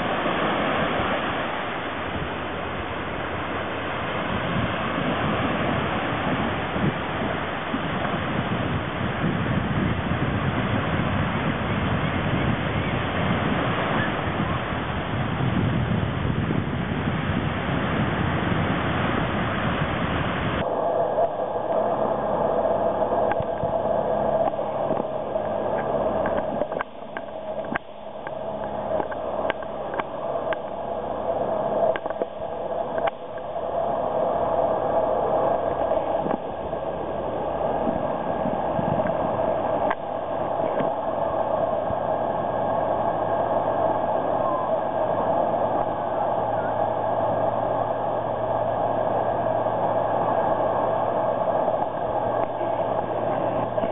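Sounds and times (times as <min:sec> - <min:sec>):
surf rushing: 0:00.0 - 0:53.9
thin steady hiss: 0:00.0 - 0:53.9
wind on microphone: 0:00.0 - 0:53.9.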